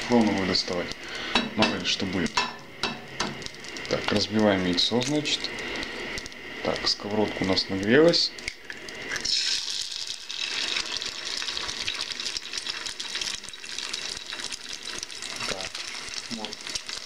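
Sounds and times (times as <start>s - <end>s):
egg sizzling in a frying pan: 0.0s - 17.0s.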